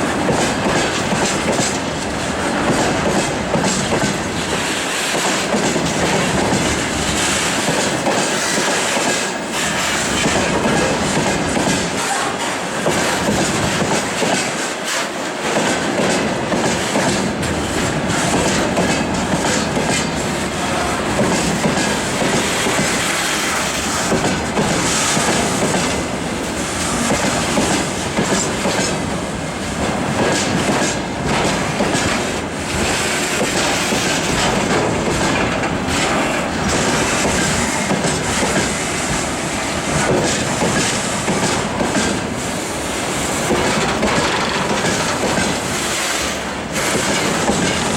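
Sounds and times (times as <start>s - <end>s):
freight train wheels clattering: 0.0s - 47.9s.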